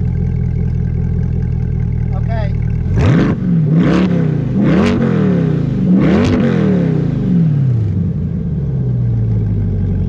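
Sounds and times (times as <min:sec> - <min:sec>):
car engine idling: 0:00.0 - 0:06.0, 0:06.9 - 0:10.0
car engine revving: 0:00.9 - 0:10.0.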